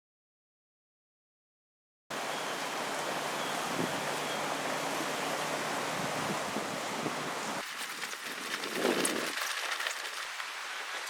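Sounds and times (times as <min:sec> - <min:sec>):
rain: 0:02.1 - 0:11.0
storm wind: 0:02.1 - 0:11.0.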